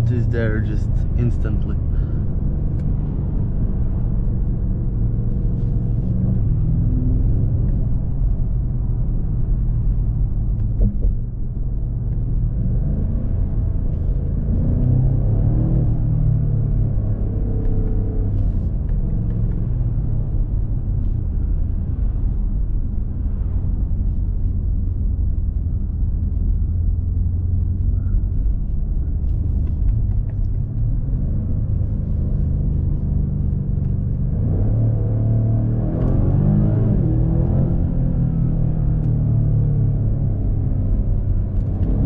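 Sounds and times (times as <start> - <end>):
car engine droning in cabin: 0.0 - 42.0.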